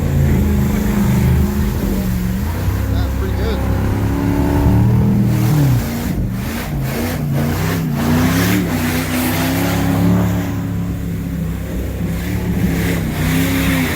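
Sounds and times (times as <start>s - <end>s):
truck engine revving: 0.0s - 13.9s.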